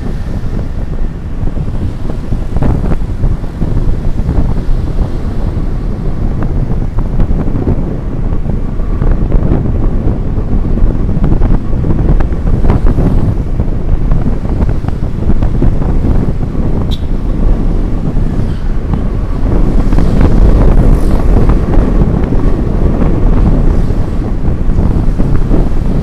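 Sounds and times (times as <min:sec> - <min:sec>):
motorcycle engine rumble: 0:00.0 - 0:26.0
road noise: 0:00.0 - 0:26.0
wind buffeting microphone: 0:00.0 - 0:26.0.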